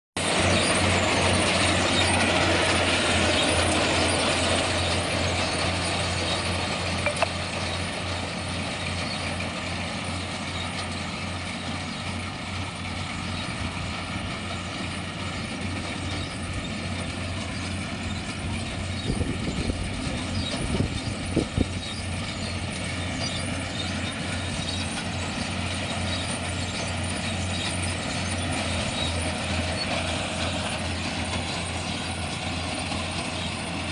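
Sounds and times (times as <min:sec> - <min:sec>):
harvester engine hum: 0:00.2 - 0:33.9.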